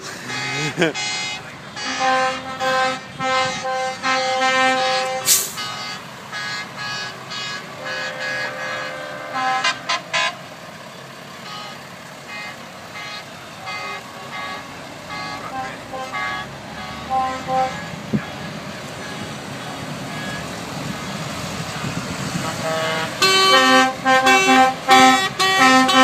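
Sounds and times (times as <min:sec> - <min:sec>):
truck horns blasting: 0:00.0 - 0:26.0.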